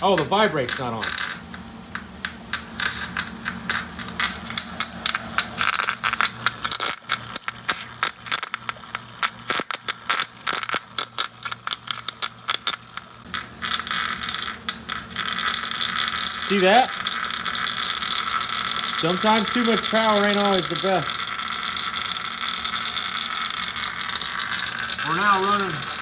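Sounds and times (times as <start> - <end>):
electrical sparks crackling: 0.0 - 26.0
steady low hum: 0.0 - 26.0.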